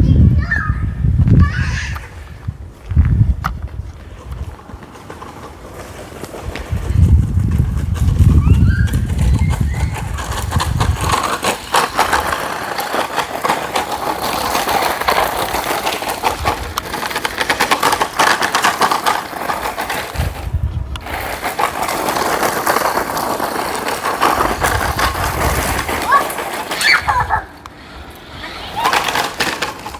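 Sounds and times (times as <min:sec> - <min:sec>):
rc truck motor and tyres: 0:03.1 - 0:29.9.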